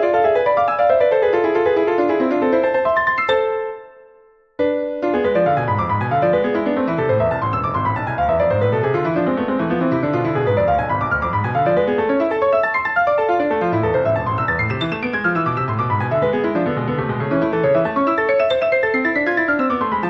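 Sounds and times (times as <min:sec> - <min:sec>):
piano playing rolling arpeggios: 0:00.0 - 0:20.0.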